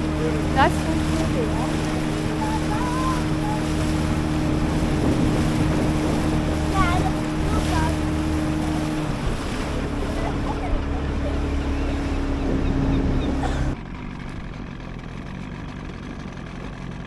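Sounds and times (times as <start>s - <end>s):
wind noise: 0.0s - 13.8s
boat motor running: 0.0s - 17.0s
water noise: 0.0s - 17.0s.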